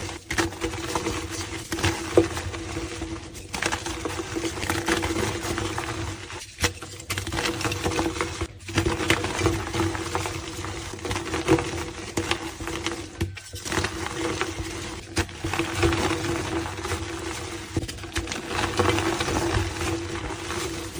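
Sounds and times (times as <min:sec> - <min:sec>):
chalk crunching and crumbling: 0:00.0 - 0:20.9.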